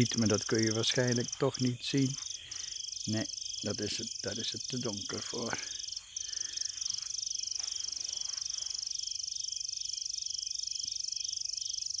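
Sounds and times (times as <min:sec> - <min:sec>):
crickets trilling: 0:00.0 - 0:12.0
lower pulsing insect call: 0:00.0 - 0:12.0.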